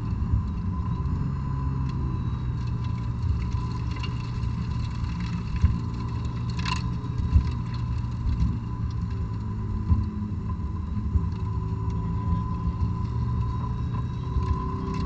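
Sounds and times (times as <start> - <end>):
car engine at low revs: 0.0 - 15.0
road noise: 0.0 - 15.0
thin steady whine: 0.0 - 15.0.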